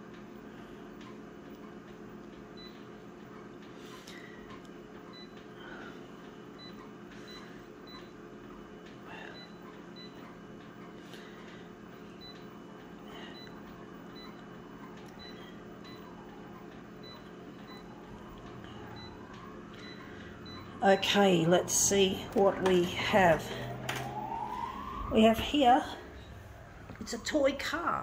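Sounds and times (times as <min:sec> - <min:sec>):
copier humming: 0:00.0 - 0:28.0.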